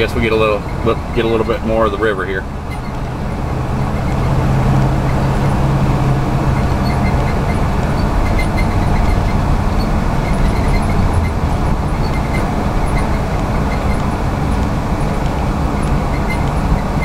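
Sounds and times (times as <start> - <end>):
tyre road noise: 0.0 - 17.0
vehicle engine hum: 0.0 - 17.0.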